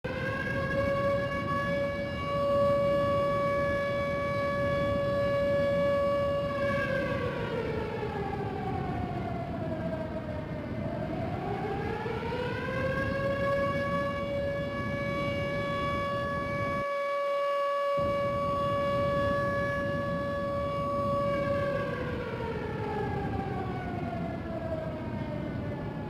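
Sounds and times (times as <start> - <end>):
warning siren steady tone: 0.0 - 26.0.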